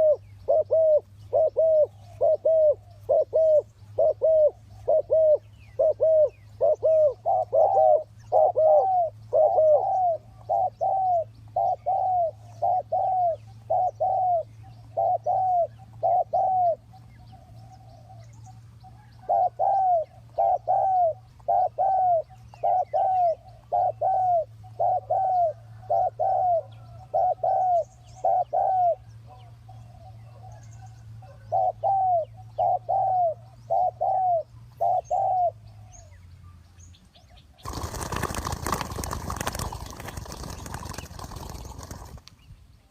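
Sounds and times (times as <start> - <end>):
dove cooing: 0.0 - 36.2.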